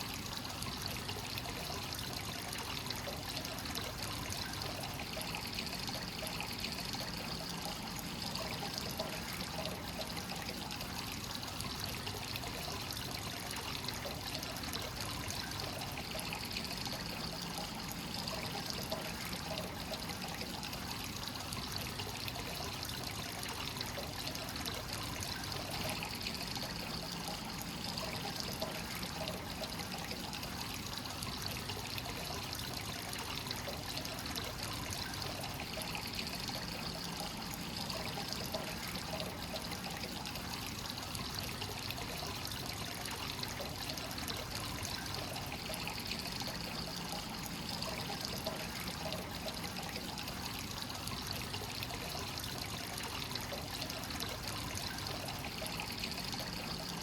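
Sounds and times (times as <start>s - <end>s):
water pouring into a bath: 0.0s - 57.0s.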